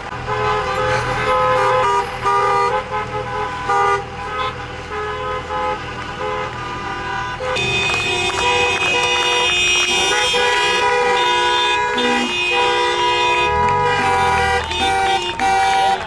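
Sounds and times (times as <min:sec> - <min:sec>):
car horns honking: 0:00.0 - 0:16.0
passing traffic rumble: 0:00.0 - 0:16.0.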